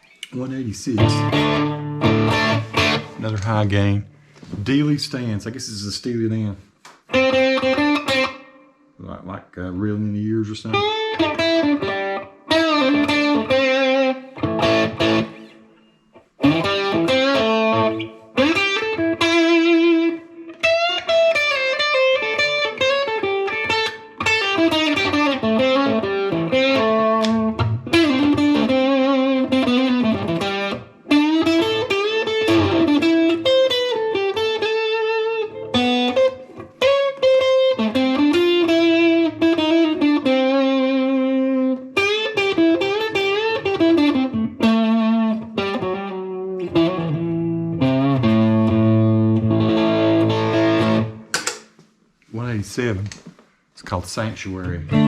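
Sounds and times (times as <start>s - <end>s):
distorted electric guitar lead: 1.0s - 3.5s, 7.1s - 8.9s, 10.7s - 51.3s, 54.7s - 55.0s.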